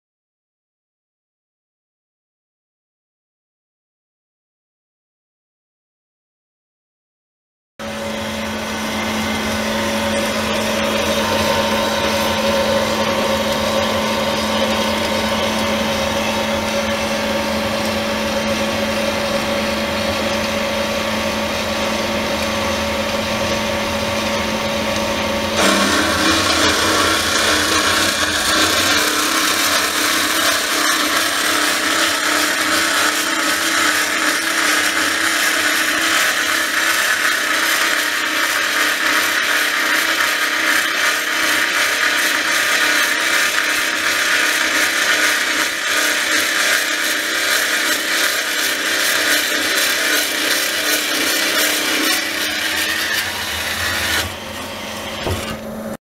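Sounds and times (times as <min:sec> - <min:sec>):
bandsaw cutting metal tube: 0:07.8 - 0:56.0
bandsaw machine running: 0:07.8 - 0:56.0.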